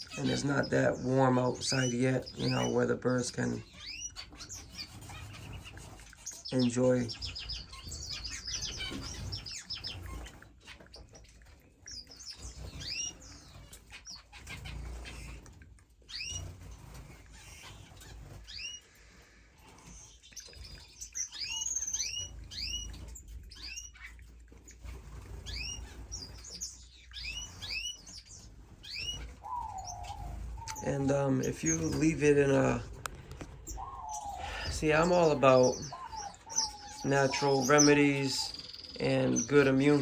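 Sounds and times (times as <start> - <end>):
finches chirping: 0.0 - 40.0.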